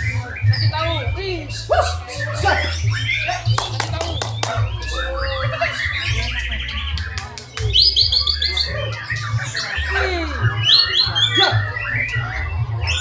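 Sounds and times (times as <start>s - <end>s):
birds singing trills and whistles: 0.0s - 13.0s.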